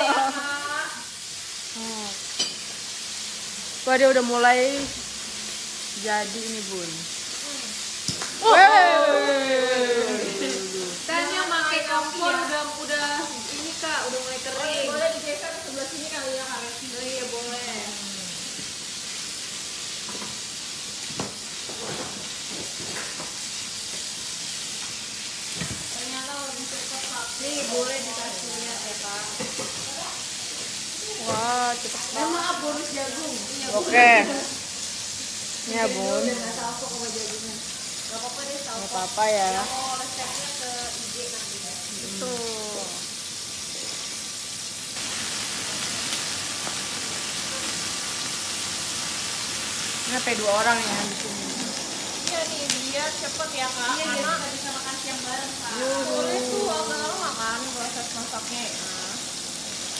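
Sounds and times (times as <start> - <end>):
meat sizzling on grill pan: 0.0 - 59.9
torch flame hissing: 0.0 - 59.9.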